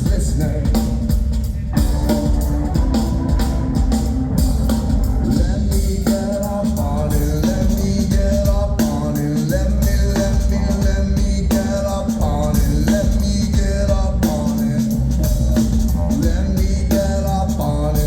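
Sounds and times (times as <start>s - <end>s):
deep bass: 0.0s - 18.0s
drum kit beat: 0.0s - 18.0s.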